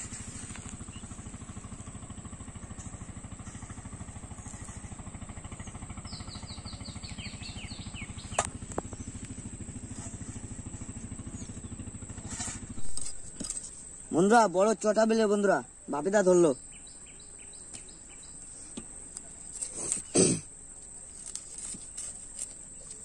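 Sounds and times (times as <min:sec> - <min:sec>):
engine chugging: 0:00.0 - 0:23.0.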